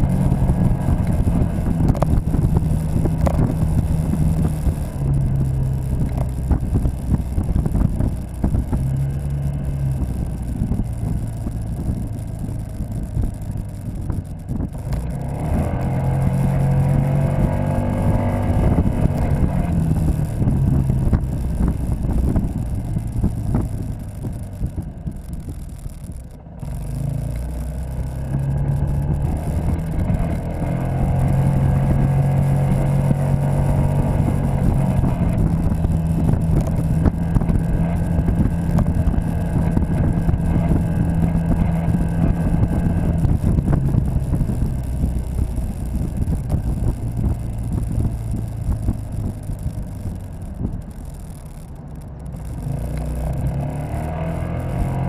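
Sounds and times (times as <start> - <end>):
scooter engine running: 0.0 - 55.0
wind on microphone: 0.0 - 55.0.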